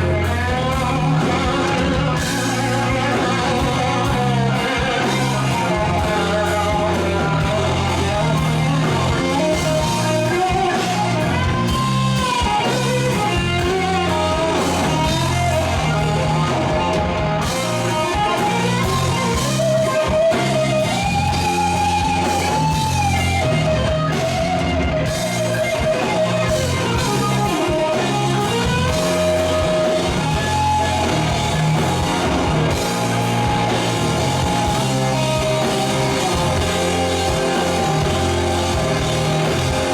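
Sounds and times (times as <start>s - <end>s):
guitar bending melody notes: 0.0s - 39.9s
instrumental rock music: 0.0s - 39.9s.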